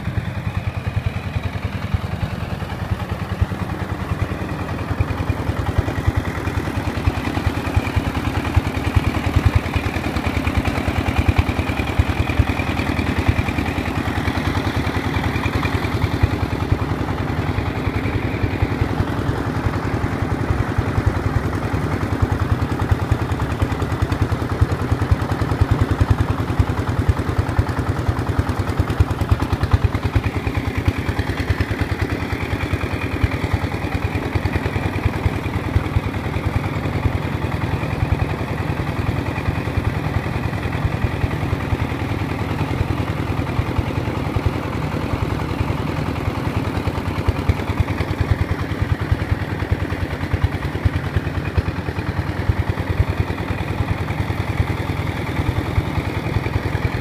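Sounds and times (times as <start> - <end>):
small engine chugging: 0.0 - 57.0.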